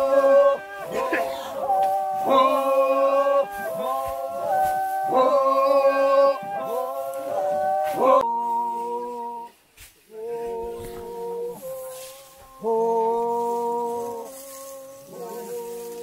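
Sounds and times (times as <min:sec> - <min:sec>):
group of voices chanting: 0:00.0 - 0:09.5, 0:10.1 - 0:16.0.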